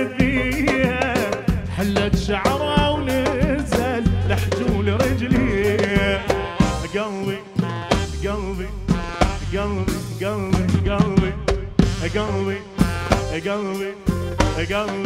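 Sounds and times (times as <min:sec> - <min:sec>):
drum kit beat: 0:00.0 - 0:15.0
ornamented lead melody: 0:00.0 - 0:15.0.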